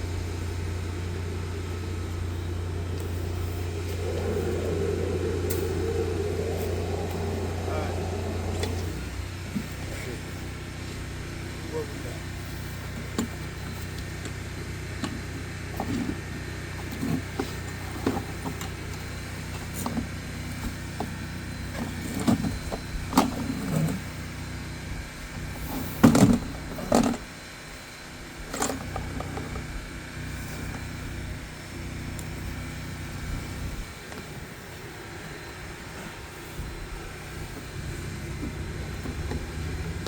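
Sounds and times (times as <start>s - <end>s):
engine running: 0.0s - 24.4s, 28.6s - 40.0s.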